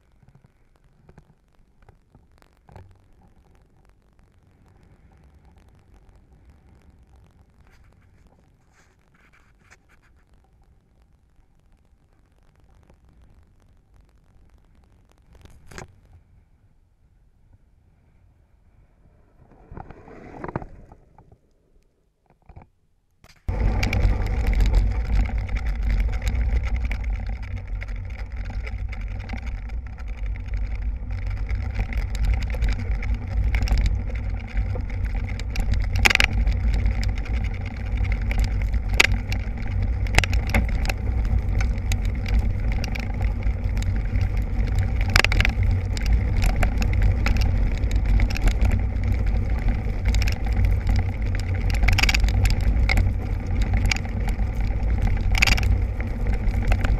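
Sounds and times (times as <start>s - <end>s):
wheels rumbling over dirt: 0.0s - 16.4s, 17.4s - 22.7s, 23.3s - 56.9s.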